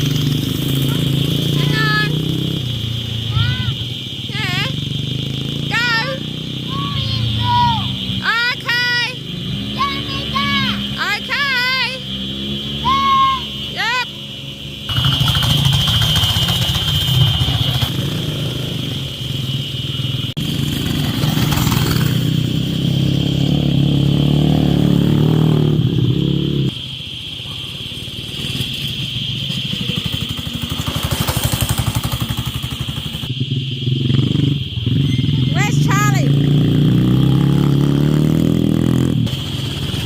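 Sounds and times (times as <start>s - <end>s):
small petrol engine revving: 0.0s - 8.3s, 9.0s - 13.8s, 14.5s - 26.8s, 27.8s - 40.0s.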